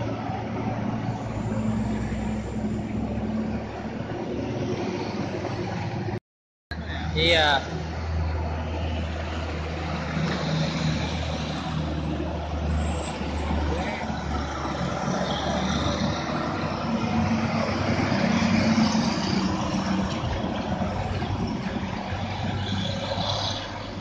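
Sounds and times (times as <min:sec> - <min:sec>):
heavy truck diesel engines: 0:00.0 - 0:24.0.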